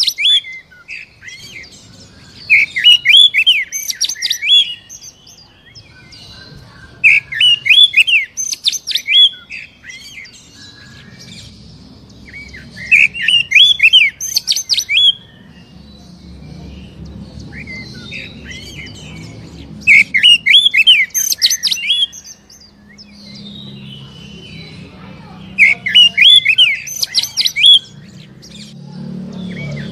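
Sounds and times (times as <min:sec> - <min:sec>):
magpie-robin whistled song: 0:00.0 - 0:29.9.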